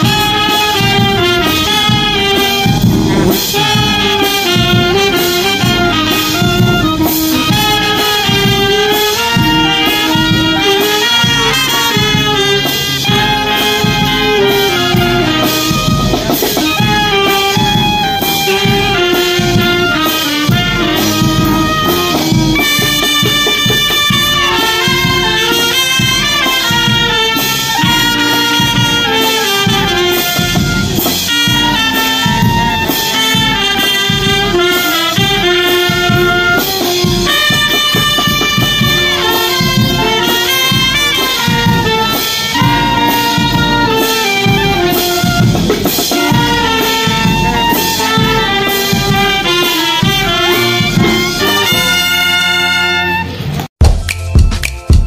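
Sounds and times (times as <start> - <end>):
instrumental music with brass melody: 0.0 - 55.0.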